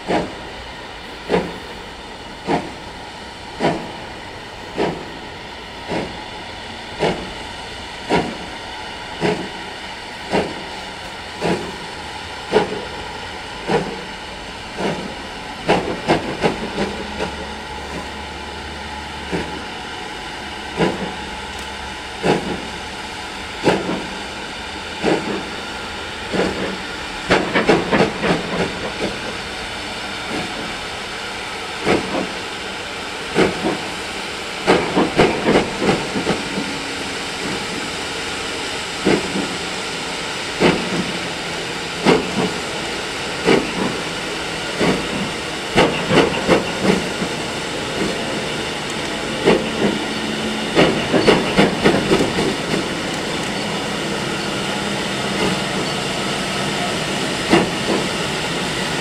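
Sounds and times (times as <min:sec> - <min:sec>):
steam hissing: 0:00.0 - 0:59.0.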